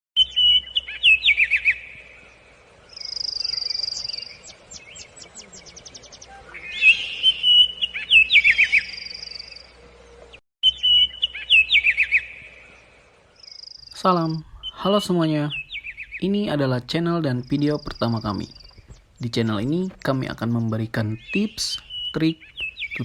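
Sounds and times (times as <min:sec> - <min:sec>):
bird high trill: 0:00.2 - 0:09.8, 0:10.6 - 0:19.6, 0:21.0 - 0:23.0
bird ticking calls: 0:00.2 - 0:23.0
birds singing: 0:00.2 - 0:23.0.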